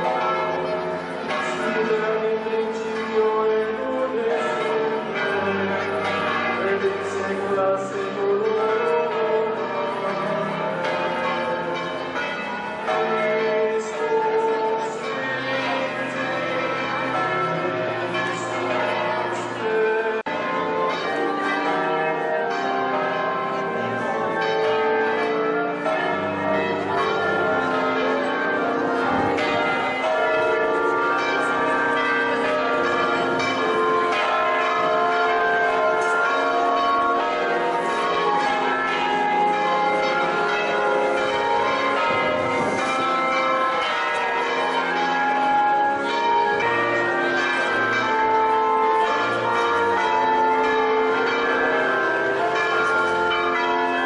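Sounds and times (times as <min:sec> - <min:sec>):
church bells pealing: 0:00.0 - 0:54.0.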